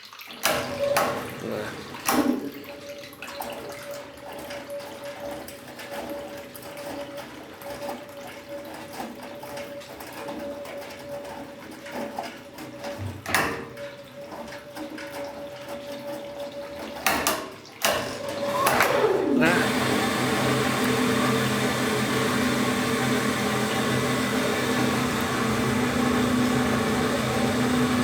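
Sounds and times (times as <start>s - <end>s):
washing machine motor hum: 0.4s - 28.0s.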